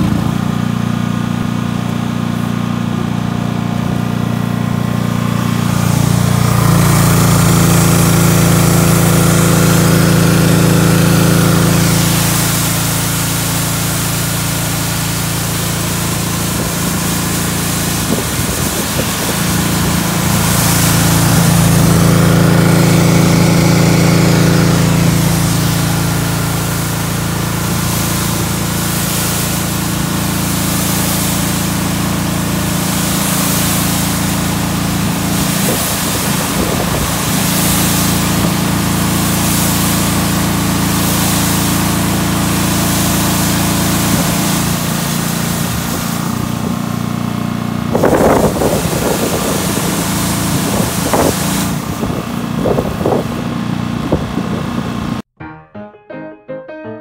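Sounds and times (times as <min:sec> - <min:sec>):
high-pressure water jet hissing: 0:00.0 - 0:55.2
pressure washer engine running: 0:00.0 - 0:55.4.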